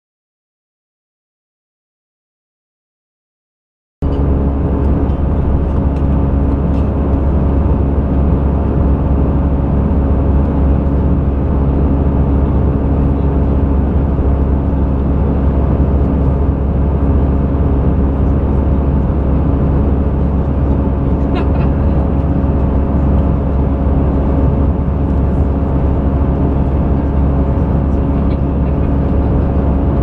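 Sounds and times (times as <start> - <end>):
airplane cabin engine rumble: 4.0 - 30.0.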